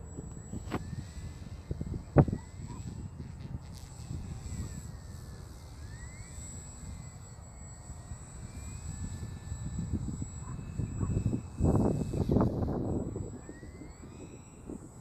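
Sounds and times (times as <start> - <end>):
wind buffeting microphone: 0.0 - 5.7, 8.0 - 15.0
model plane motor whining: 0.0 - 15.0.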